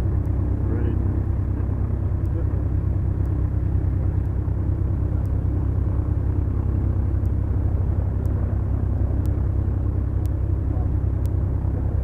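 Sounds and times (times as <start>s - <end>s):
twin piston engines droning: 0.0s - 12.0s.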